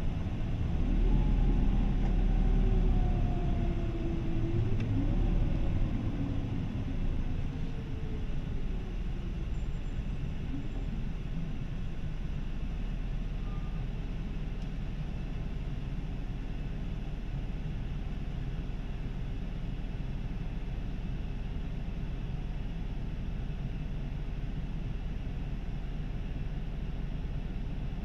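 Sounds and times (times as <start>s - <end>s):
bus diesel engine rumble: 0.0s - 28.0s.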